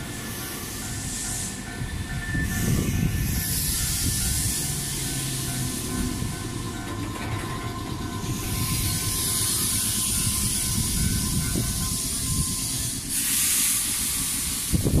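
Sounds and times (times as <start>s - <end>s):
high hiss of electric train: 0.0s - 15.0s
wheel and rail rumble: 0.0s - 15.0s.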